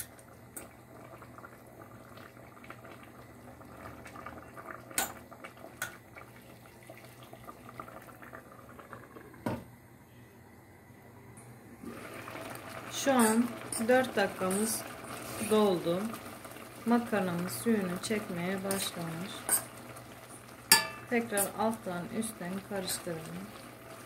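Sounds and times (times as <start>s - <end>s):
water boiling in a pot: 0.0s - 9.9s, 11.6s - 24.0s.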